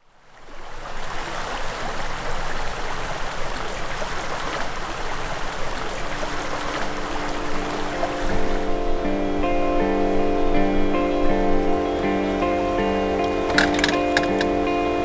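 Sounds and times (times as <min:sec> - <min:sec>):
creek babbling over stones: 0:00.0 - 0:09.5, 0:12.0 - 0:15.0.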